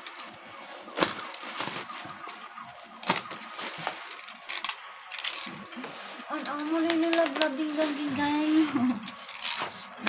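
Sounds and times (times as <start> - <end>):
plastic bag crackles: 0.0 - 10.0
plastic bag crinkling: 0.1 - 5.6, 6.2 - 10.0.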